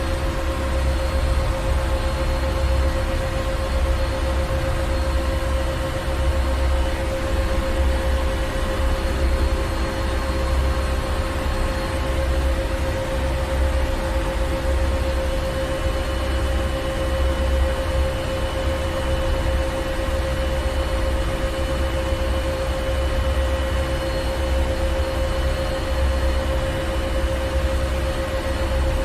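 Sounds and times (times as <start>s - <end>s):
constant mechanical whine: 0.0s - 29.0s.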